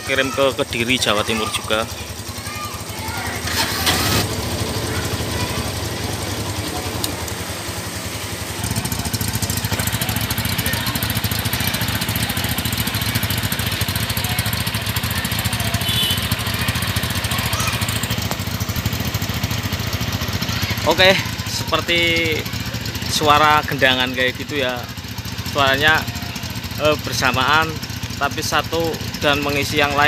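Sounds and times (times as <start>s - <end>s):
motorcycle engines idling: 0.0s - 30.0s.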